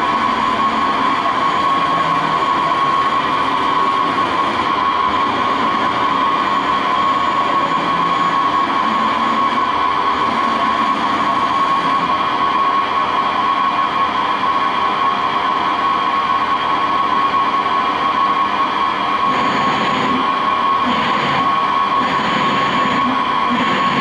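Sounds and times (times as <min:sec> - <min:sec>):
lathe machine whine: 0:00.0 - 0:24.0.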